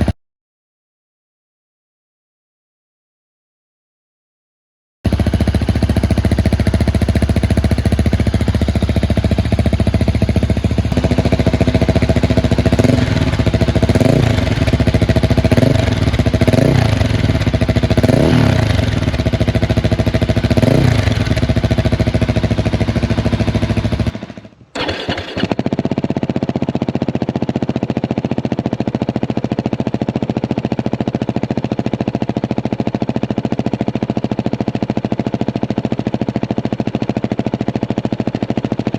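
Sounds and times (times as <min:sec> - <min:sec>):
motorcycle engine idling: 0:05.1 - 0:38.9.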